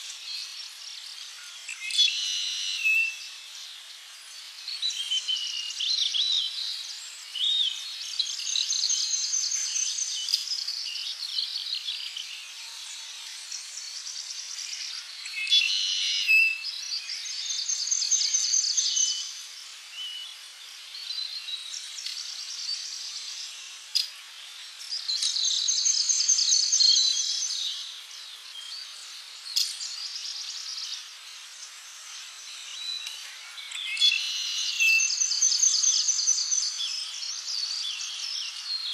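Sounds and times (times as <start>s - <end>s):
steady high hiss: 0.0s - 38.9s
tropical birds chirping: 0.0s - 38.9s.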